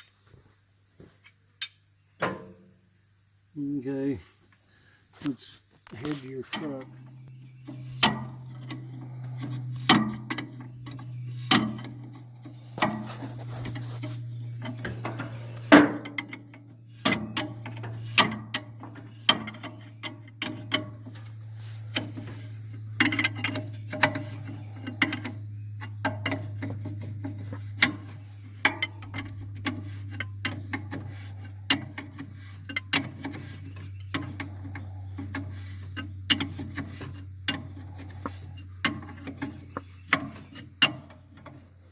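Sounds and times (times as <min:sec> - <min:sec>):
sharp clicks and knocks: 0:05.9 - 0:41.7
engine idling: 0:06.0 - 0:41.9.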